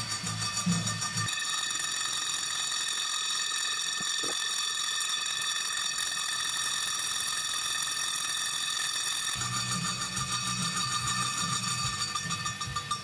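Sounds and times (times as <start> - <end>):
circular saw cutting aluminum: 0.0 - 13.0.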